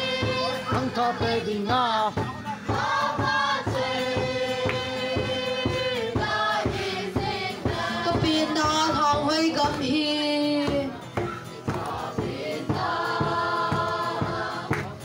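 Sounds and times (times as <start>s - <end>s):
steady drumbeat: 0.0s - 15.0s
voices singing held notes: 0.0s - 15.0s.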